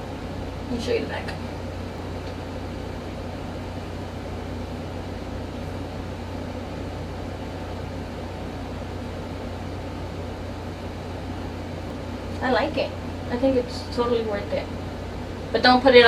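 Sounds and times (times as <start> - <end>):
fan-like hum and hiss: 0.0 - 16.0.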